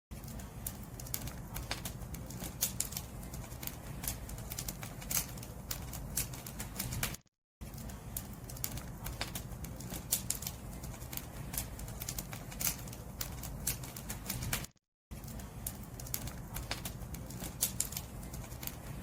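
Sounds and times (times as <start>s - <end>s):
wood fire crackling and popping: 0.1s - 19.0s.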